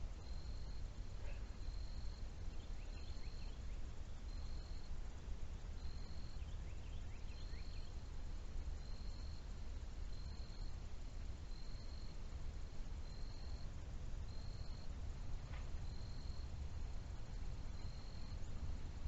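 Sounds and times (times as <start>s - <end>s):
low rumble of wind or water: 0.0s - 19.0s.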